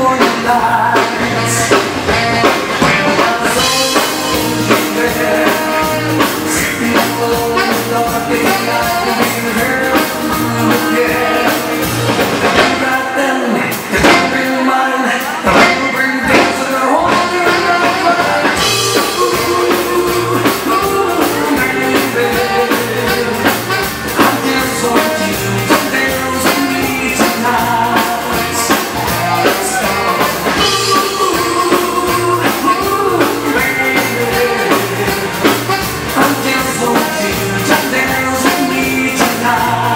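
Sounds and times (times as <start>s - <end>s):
band playing swing-dance tune: 0.0s - 39.9s
man singing: 0.0s - 39.9s.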